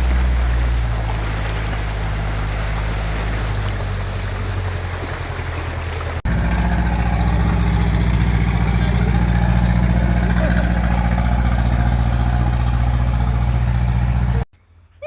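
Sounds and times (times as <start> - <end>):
vehicle engine running: 0.0 - 14.5.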